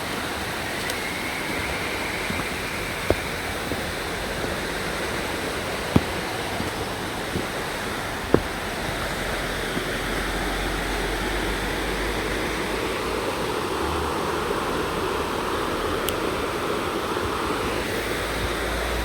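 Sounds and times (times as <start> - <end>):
rushing creek water: 0.0 - 19.0.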